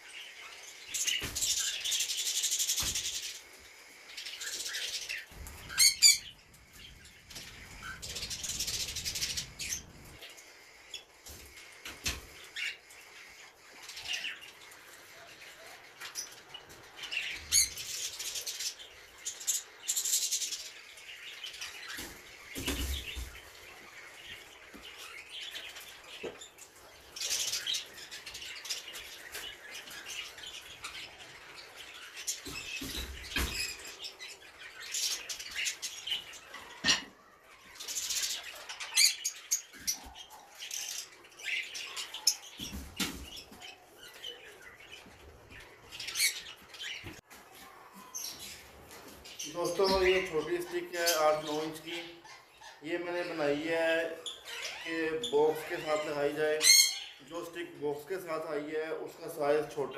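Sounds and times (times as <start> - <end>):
parrots chirping: 0.0 - 57.4.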